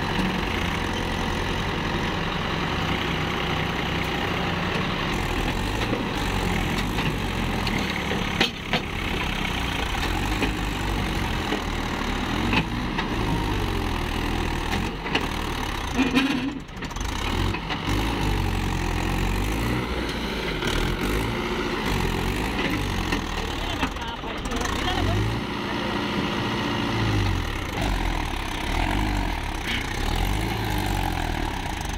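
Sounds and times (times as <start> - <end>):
tractor diesel engine straining: 0.0 - 31.9.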